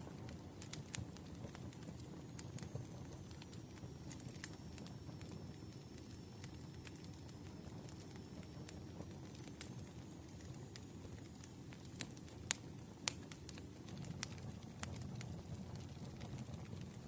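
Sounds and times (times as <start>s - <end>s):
fire popping and crackling: 0.0s - 17.0s
wood fire rumbling: 0.0s - 17.0s.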